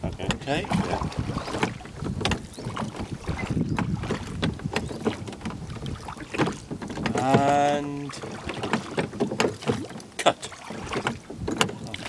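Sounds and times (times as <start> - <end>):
wind on microphone: 0.0 - 10.0, 10.6 - 12.0
oars knocking in metal rowlocks: 0.0 - 12.0
water wash: 0.0 - 12.0.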